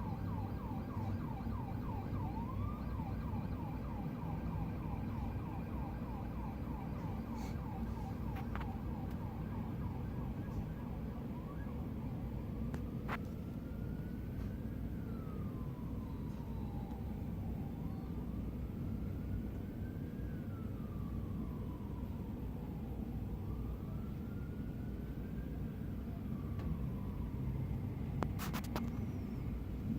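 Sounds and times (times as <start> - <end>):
police siren yelping: 0.0 - 29.9
street traffic rumble: 0.0 - 29.9.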